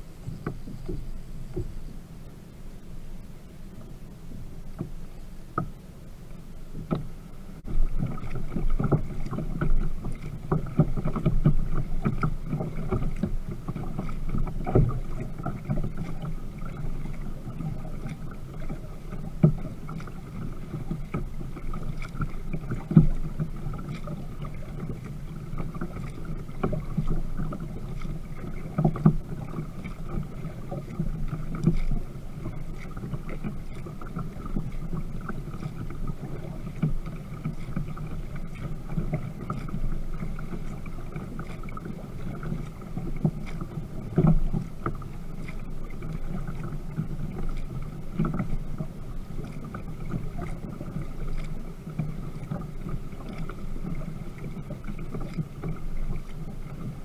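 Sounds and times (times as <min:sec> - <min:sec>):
water splashing against kayak hull: 0:00.0 - 0:57.0.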